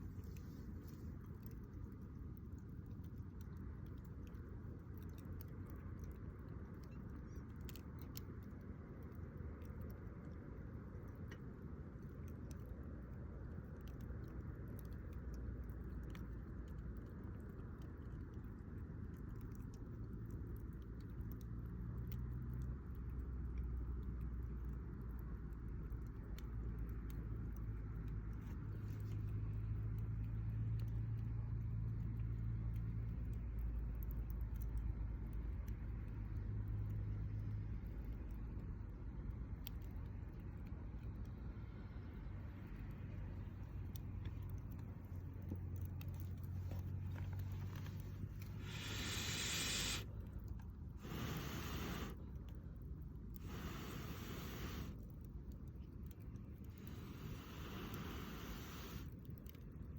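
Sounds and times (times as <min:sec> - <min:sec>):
campfire crackling and popping: 0:00.0 - 0:41.5, 0:42.1 - 0:59.9.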